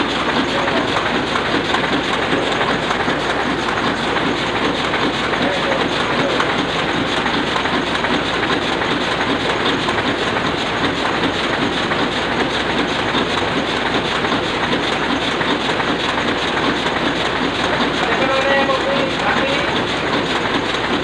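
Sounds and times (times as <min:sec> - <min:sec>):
printing press clattering: 0:00.0 - 0:21.0.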